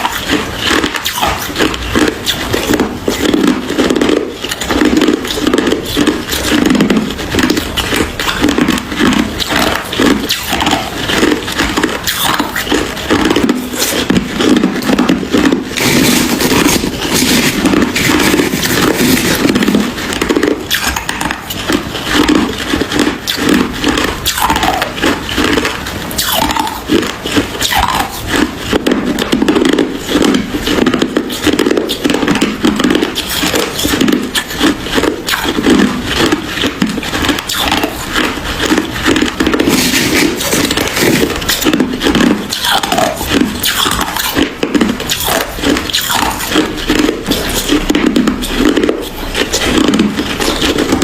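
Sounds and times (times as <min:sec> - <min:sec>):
ice being chewed: 0:00.0 - 0:51.0.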